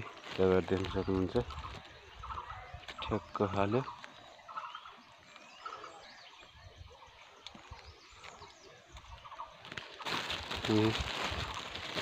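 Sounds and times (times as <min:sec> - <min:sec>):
small bird chirps: 0:00.3 - 0:11.9.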